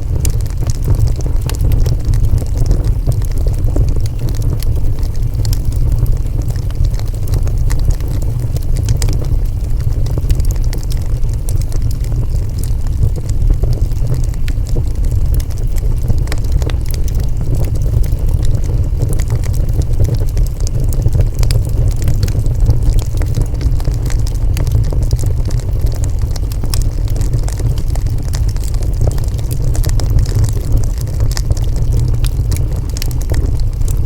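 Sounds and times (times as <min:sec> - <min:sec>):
fire crackles and pops: 0:00.0 - 0:34.0
wood fire roaring: 0:00.0 - 0:34.0.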